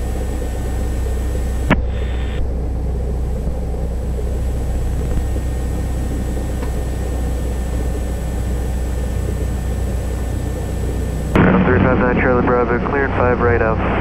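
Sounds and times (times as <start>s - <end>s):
airplane engine drone in cabin: 0.0s - 14.0s.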